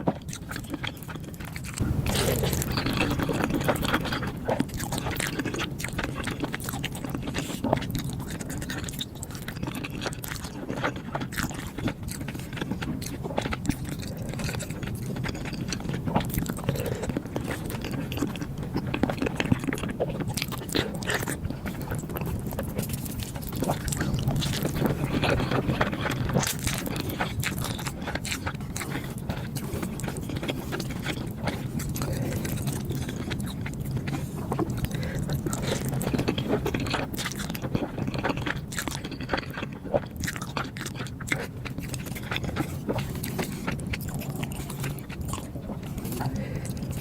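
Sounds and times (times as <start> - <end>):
person chewing food: 0.0 - 47.0.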